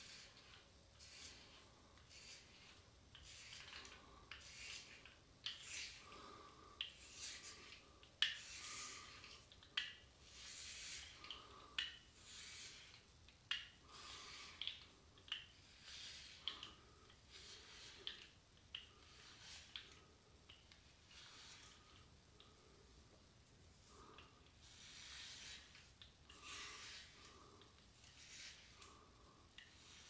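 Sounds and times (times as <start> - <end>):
razor scraping stubble: 0.0 - 13.1, 13.9 - 20.1, 23.8 - 30.0.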